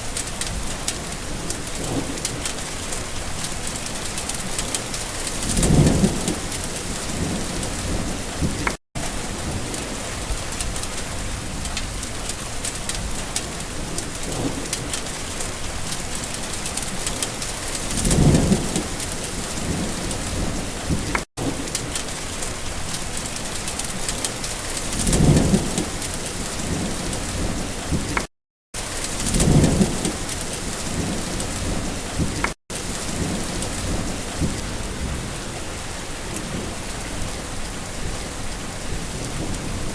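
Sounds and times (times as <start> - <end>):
rain falling: 0.0 - 39.9
thunder rumbling: 0.4 - 39.9.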